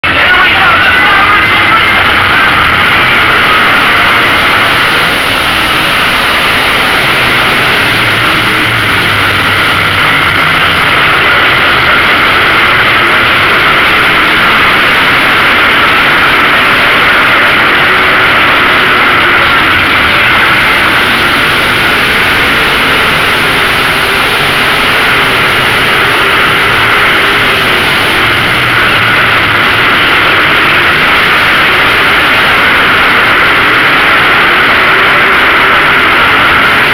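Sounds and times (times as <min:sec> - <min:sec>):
race car engines roaring: 0:00.0 - 0:36.9
race cars passing: 0:00.0 - 0:36.9.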